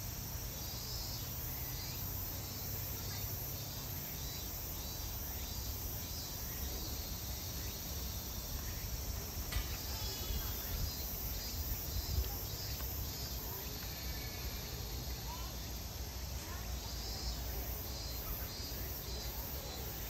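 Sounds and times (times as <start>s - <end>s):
faint insect chirping: 0.0s - 20.0s.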